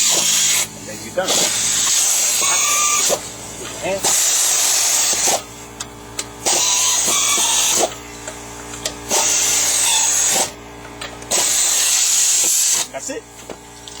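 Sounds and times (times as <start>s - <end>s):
pneumatic air tool hissing: 0.0s - 5.8s, 6.4s - 10.6s, 11.3s - 13.0s.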